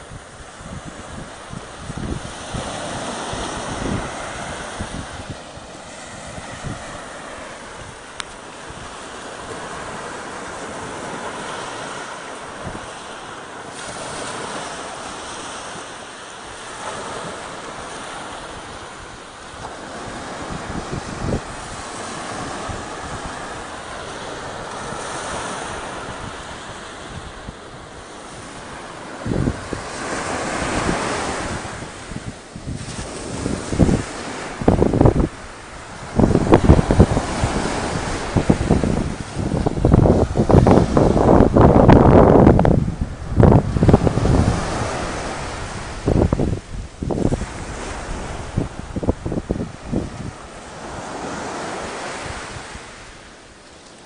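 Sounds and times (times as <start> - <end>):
wind buffeting microphone: 0.0 - 53.4
surf washing on beach: 0.0 - 54.0.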